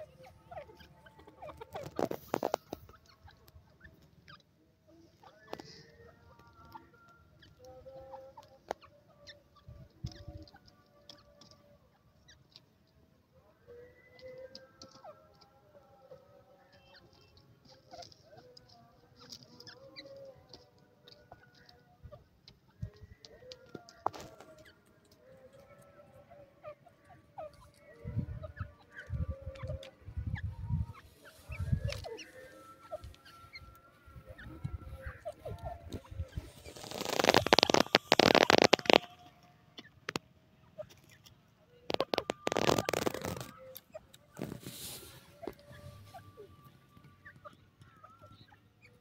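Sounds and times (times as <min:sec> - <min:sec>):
francolin clucking calls: 0:00.0 - 0:12.9, 0:13.6 - 0:49.0
small birds chirping: 0:00.0 - 0:49.0.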